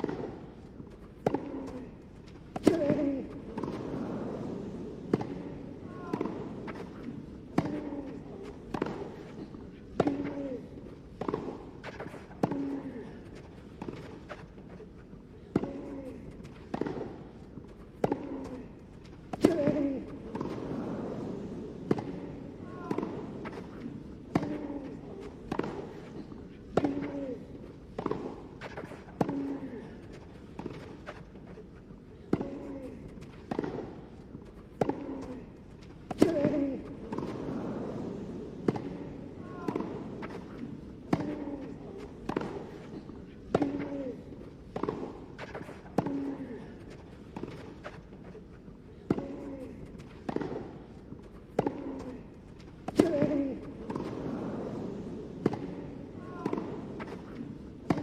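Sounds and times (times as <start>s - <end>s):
racket hitting tennis ball: 0.0s - 58.0s.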